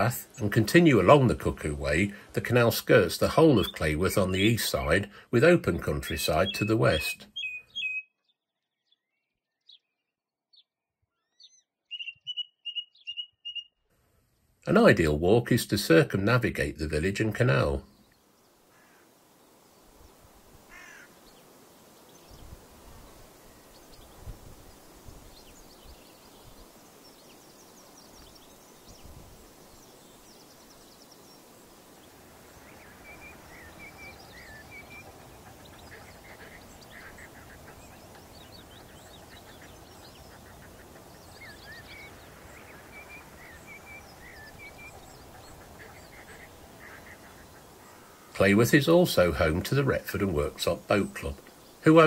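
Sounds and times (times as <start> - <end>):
birds calling: 0.0 - 13.9, 14.7 - 52.0.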